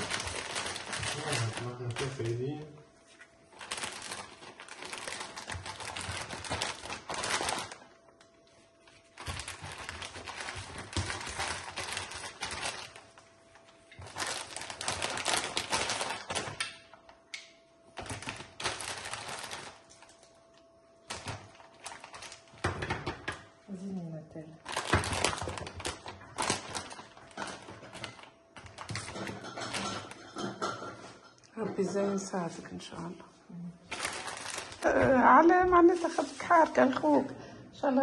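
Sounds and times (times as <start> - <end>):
plastic packets crinkling: 0.0 - 17.2, 18.0 - 23.0, 24.6 - 30.5, 33.8 - 37.2.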